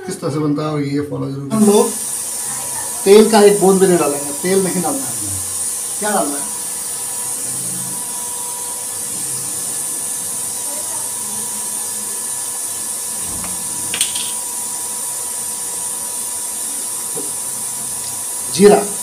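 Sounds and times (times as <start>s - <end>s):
cooktop fan whirring hiss: 0.0s - 19.0s.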